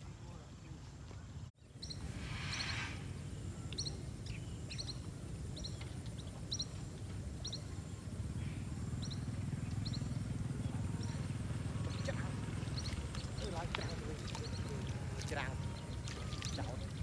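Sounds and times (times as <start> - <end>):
small bird chirping: 1.4 - 17.0.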